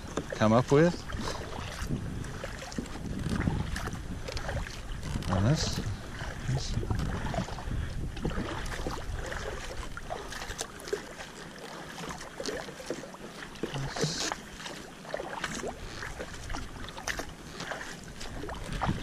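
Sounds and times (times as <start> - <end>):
kayak paddle splashing water: 0.0 - 19.0.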